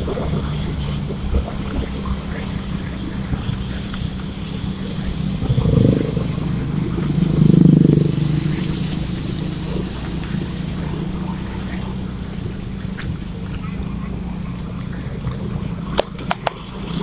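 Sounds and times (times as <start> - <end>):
motor scooter engines running: 0.0 - 17.0
road and wind noise: 0.0 - 17.0.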